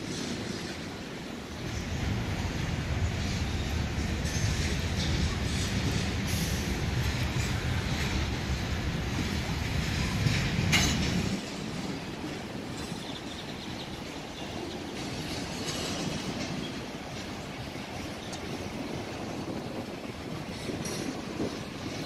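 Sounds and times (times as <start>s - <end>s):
train wheels clicking over rails: 0.0s - 22.0s.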